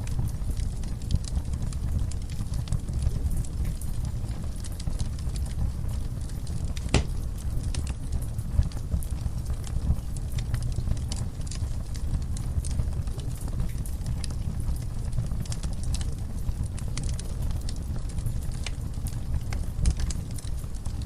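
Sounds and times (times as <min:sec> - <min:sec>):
fire crackles and pops: 0:00.0 - 0:21.0
low roar of fire flames: 0:00.0 - 0:21.0.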